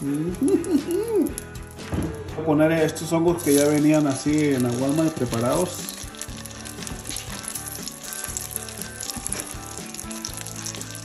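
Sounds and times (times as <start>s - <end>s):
hot oil sizzling in a pan: 0.0s - 1.9s, 3.3s - 11.0s.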